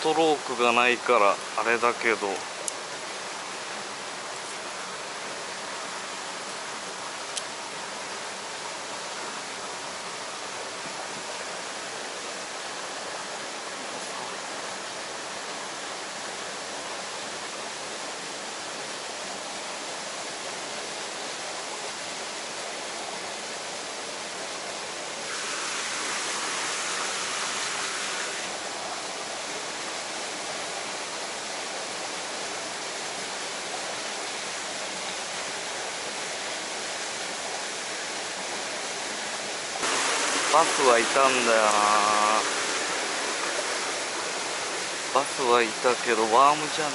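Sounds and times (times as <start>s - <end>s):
creek flowing over rocks: 0.0s - 46.9s.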